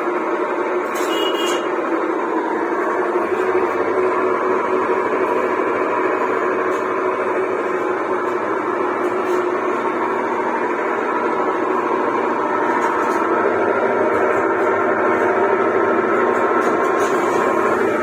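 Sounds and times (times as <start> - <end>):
washing machine running: 0.0 - 18.0.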